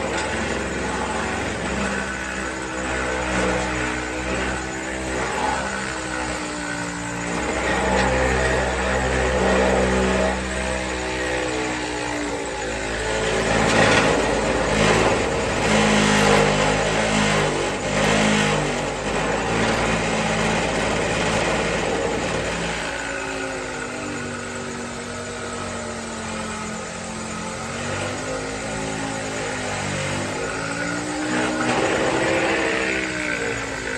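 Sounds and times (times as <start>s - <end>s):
power sander on sheet metal: 0.0s - 33.9s.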